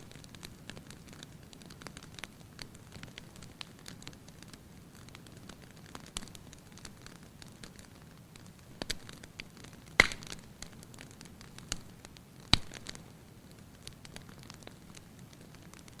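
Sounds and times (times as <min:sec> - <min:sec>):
fireplace fire crackling: 0:00.0 - 0:16.0
sharp pops of fire: 0:00.0 - 0:16.0.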